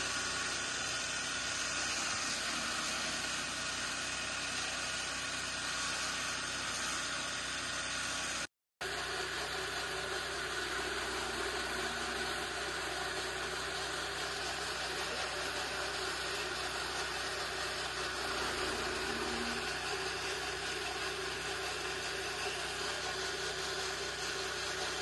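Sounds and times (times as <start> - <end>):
chaff cutter machine whirring: 0.0 - 25.0.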